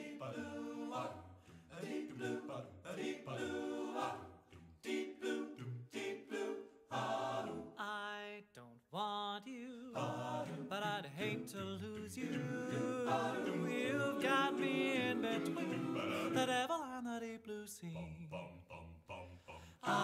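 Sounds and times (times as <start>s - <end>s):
vocal group singing in harmony: 0.0s - 8.1s, 9.6s - 16.8s, 17.7s - 20.0s.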